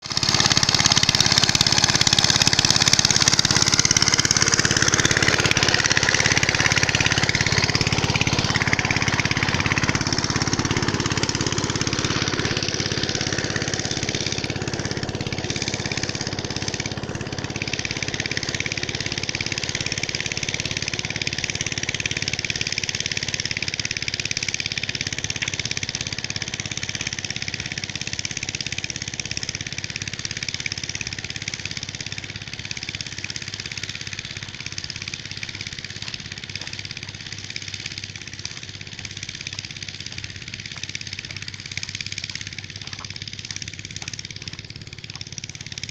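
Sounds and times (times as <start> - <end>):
diesel engine running a pump: 0.0 - 45.9.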